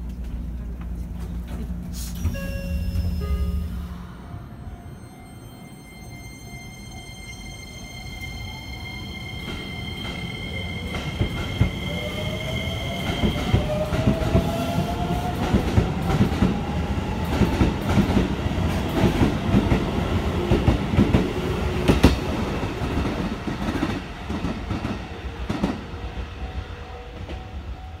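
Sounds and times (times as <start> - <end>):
electric train inverter whine: 0.1 - 24.4.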